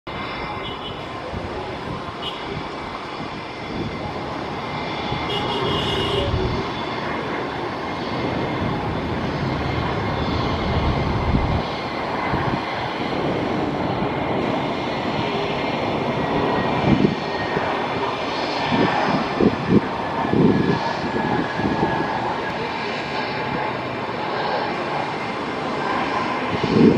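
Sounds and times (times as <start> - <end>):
jet engine rumble and hiss: 0.1 - 26.9.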